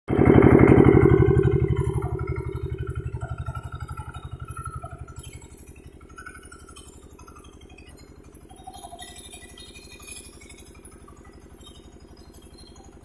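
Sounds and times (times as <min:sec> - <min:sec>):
boat engine pulsing: 0:00.1 - 0:13.0.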